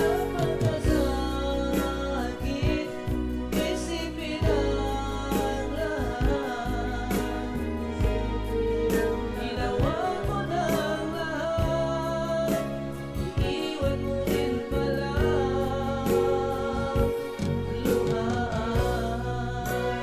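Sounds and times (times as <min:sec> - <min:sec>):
person singing: 0:00.0 - 0:20.0
song with bass and drum beat: 0:00.0 - 0:20.0.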